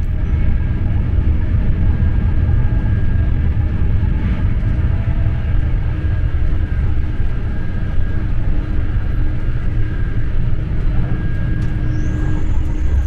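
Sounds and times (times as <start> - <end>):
faint steady hum: 0.0 - 13.0
train low rumble: 0.0 - 13.0.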